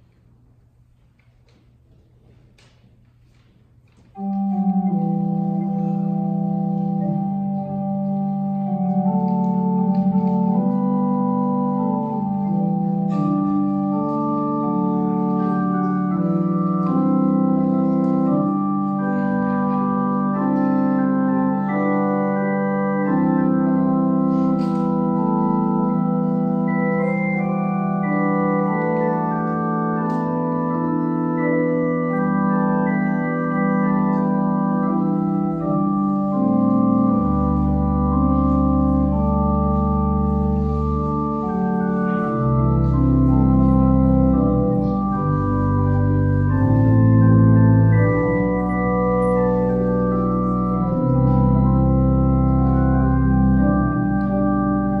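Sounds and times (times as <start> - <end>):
organ playing slow chords: 3.8 - 55.0.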